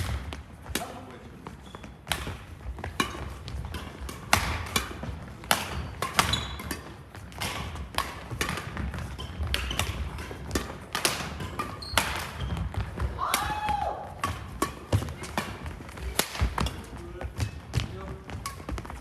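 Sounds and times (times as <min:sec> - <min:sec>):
racket hitting shuttlecock: 0:00.0 - 0:01.2, 0:01.8 - 0:19.0
footfalls on court floor: 0:00.0 - 0:19.0.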